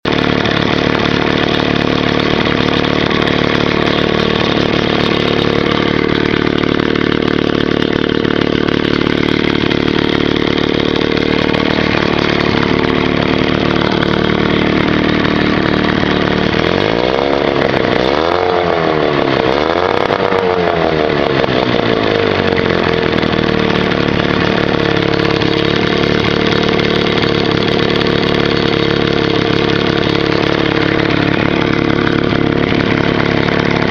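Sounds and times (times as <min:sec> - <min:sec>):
outboard motor running: 0:00.0 - 0:33.9.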